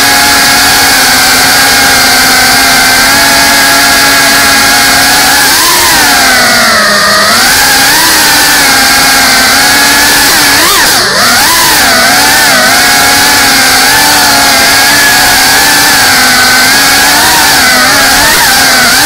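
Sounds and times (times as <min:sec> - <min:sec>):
drone motors and propellers whining: 0:00.0 - 0:19.0.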